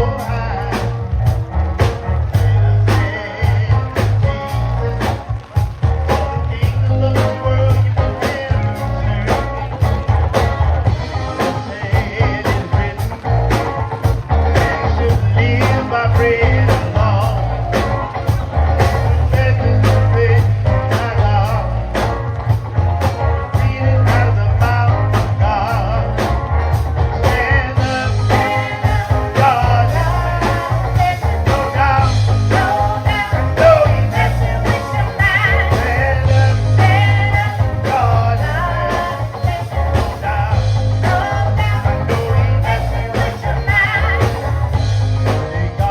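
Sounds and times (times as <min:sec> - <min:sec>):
drums beating: 0:00.0 - 0:45.9
live gospel band playing: 0:00.0 - 0:45.9.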